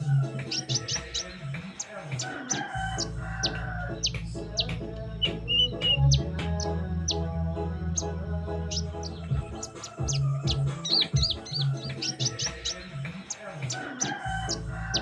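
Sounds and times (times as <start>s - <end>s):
background music: 0.0s - 15.0s
bird chirping rapidly: 0.0s - 15.0s.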